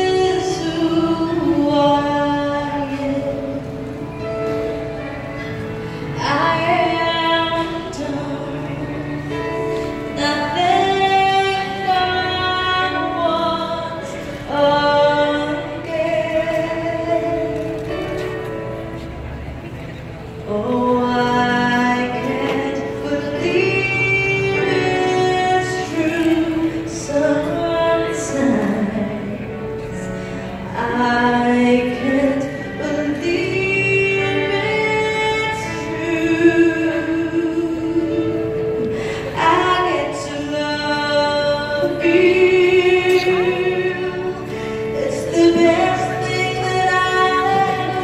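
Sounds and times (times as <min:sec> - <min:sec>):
woman singing slow song: 0:00.0 - 0:18.8, 0:20.4 - 0:48.0.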